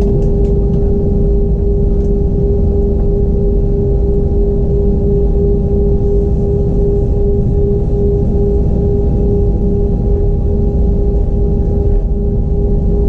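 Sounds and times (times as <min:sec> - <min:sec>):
airliner cabin rumble: 0:00.0 - 0:13.0
steady hum: 0:00.0 - 0:13.0.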